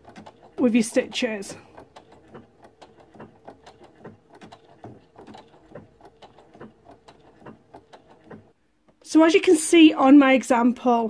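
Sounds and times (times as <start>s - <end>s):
sewing machine motor hum: 0.0s - 9.1s
sewing machine needle ticking: 0.0s - 9.1s.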